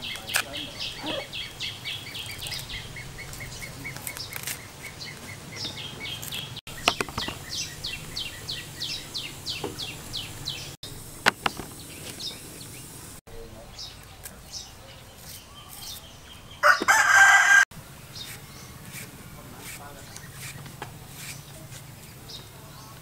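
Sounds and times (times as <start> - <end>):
small bird chirping: 0.0 - 17.1, 18.0 - 23.0.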